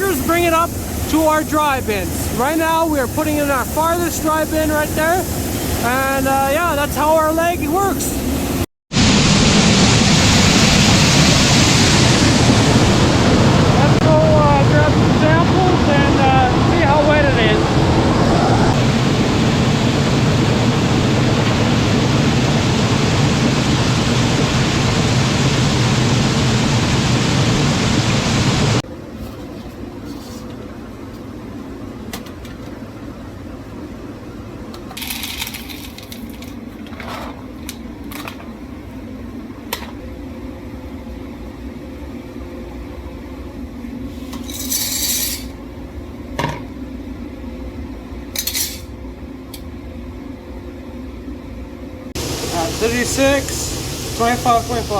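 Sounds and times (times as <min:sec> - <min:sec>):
grain dryer fan rushing air: 0:00.0 - 0:32.1, 0:36.5 - 0:54.9.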